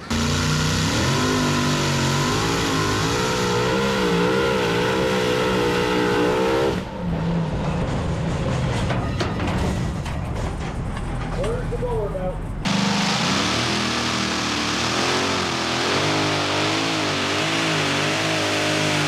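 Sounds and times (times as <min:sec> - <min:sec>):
tractor engine at full throttle: 0:00.0 - 0:09.0, 0:12.6 - 0:19.0.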